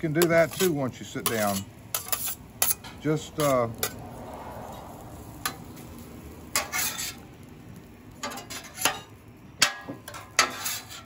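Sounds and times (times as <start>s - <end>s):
metal spatula scraping on griddle: 0.0s - 4.1s, 4.7s - 7.5s, 8.1s - 11.0s.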